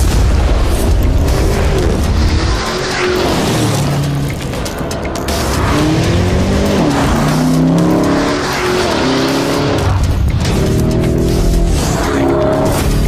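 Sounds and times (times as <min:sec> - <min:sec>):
car engine accelerating hard: 0:00.7 - 0:13.0.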